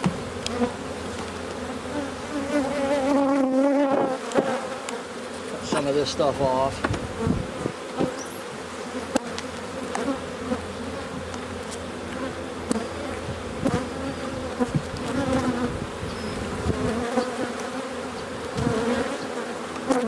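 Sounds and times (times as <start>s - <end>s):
honey bees buzzing: 0.0s - 20.0s.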